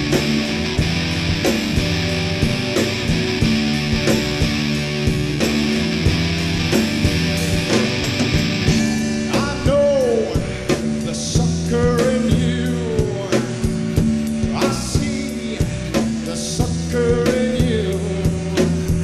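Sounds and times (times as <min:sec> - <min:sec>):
rock music drums and guitar: 0:00.0 - 0:19.0.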